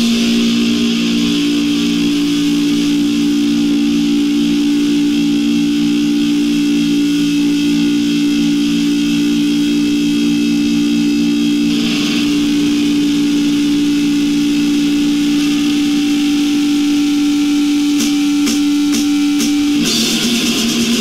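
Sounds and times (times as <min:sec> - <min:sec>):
distorted electric guitar and bass drone: 0:00.0 - 0:21.0.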